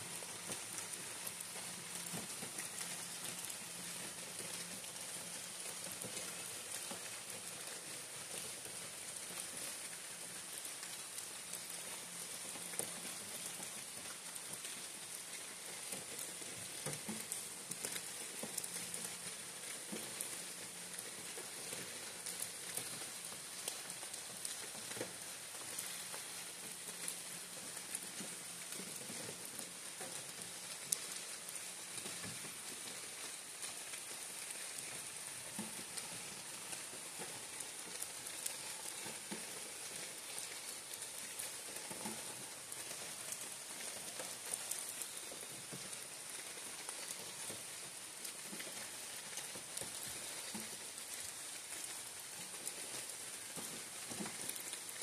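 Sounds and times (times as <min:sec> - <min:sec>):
rain falling on leaves: 0:00.0 - 0:55.0
water drips and patters: 0:00.0 - 0:55.0.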